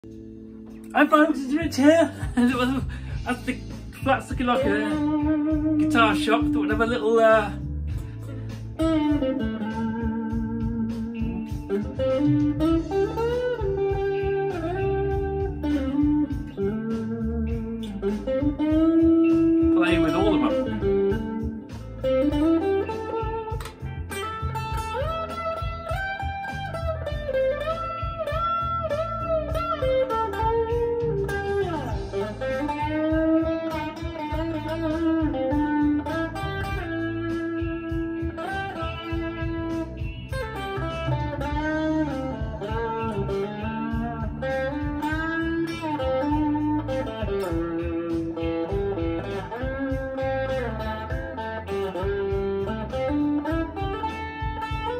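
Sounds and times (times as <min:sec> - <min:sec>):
bass guitar: 0:00.0 - 0:54.9
drums: 0:00.0 - 0:54.9
electric guitar blues lead: 0:00.0 - 0:54.9.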